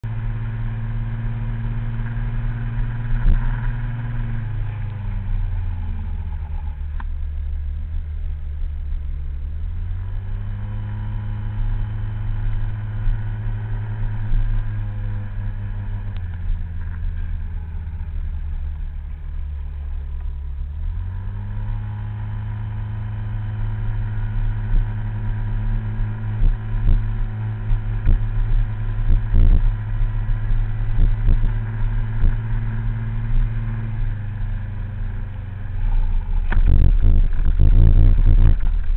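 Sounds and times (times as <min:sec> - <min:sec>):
motor scooter engine running: 0:00.0 - 0:38.9.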